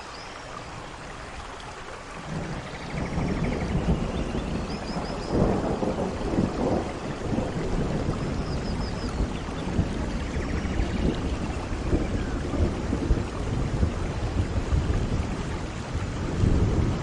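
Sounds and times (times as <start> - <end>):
steady rain: 0.0 - 17.0
thunder rumble: 2.2 - 17.0.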